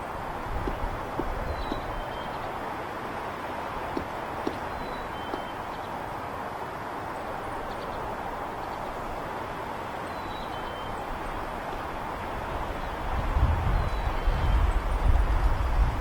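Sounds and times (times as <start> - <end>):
distant highway traffic hum: 0.0 - 16.0.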